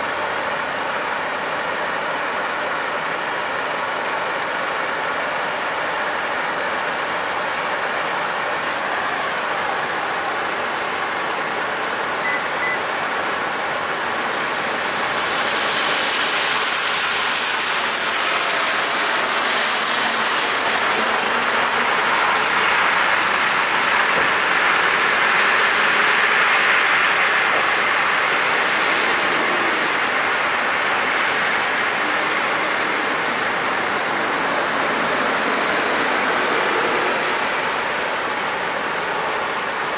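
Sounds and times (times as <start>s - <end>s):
rain on wet pavement: 0.0s - 39.9s
vehicle engine: 0.1s - 39.9s.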